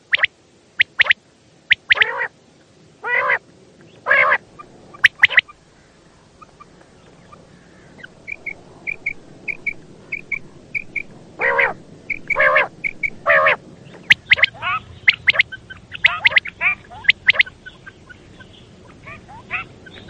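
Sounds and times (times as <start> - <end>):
quail harsh raspy calls: 0.0 - 2.3, 3.0 - 3.4, 4.0 - 20.0
quail high paired chirps: 0.0 - 2.3, 3.0 - 5.6, 6.4 - 20.0.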